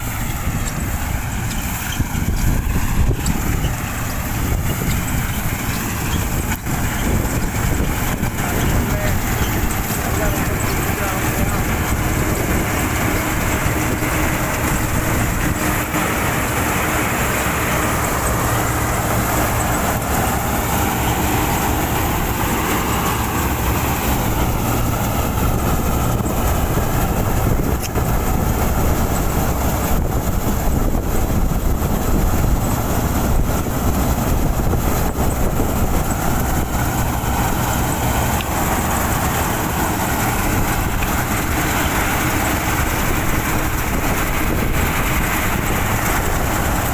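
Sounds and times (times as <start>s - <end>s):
combine harvester droning: 0.0s - 46.9s.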